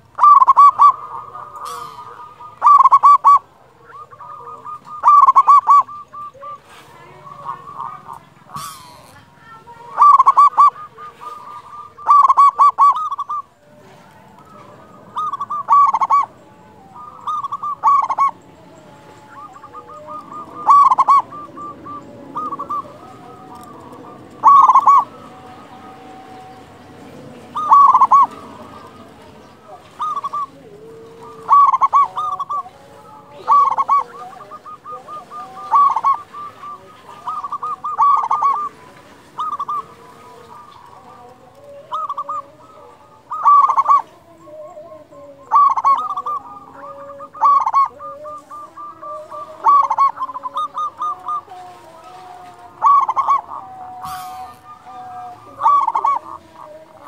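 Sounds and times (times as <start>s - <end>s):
dove cooing: 0.0s - 57.0s
faint bird calls: 0.0s - 57.0s.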